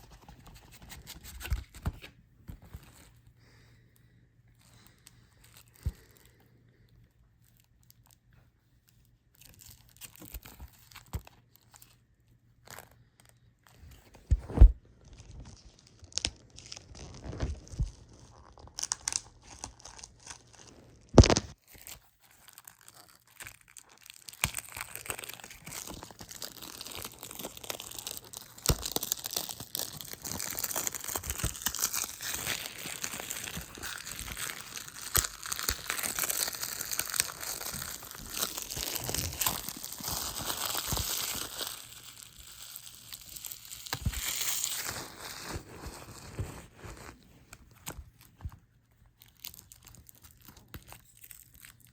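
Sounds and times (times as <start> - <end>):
plastic wrap crinkling and tearing: 9.3 - 12.0, 12.6 - 51.9.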